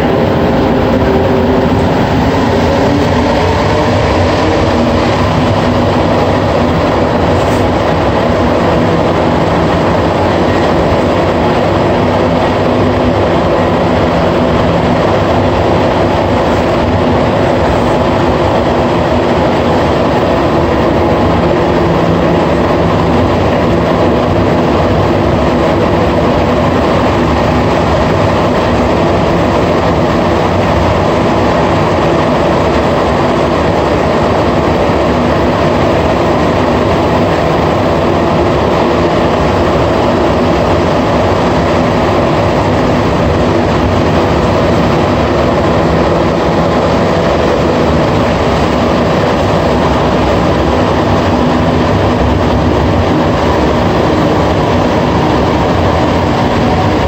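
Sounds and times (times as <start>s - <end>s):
train rumbling in a tunnel: 0.0s - 57.0s.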